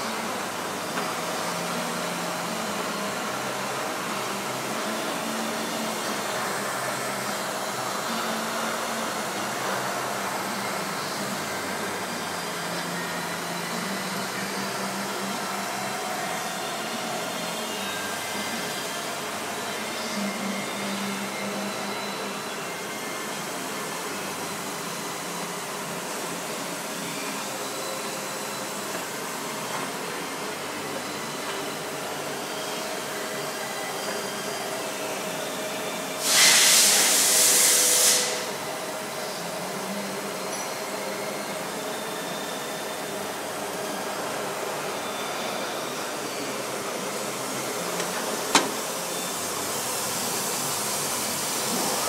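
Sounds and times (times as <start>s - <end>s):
machine whirring: 0.0s - 52.0s.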